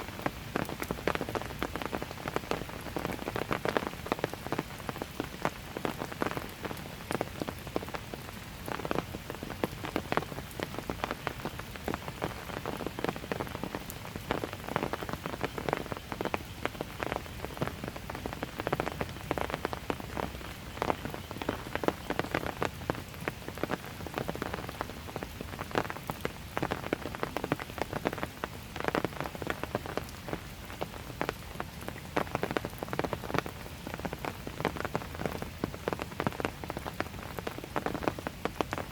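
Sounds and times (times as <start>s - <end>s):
light rain on hard surfaces: 0.0s - 38.9s.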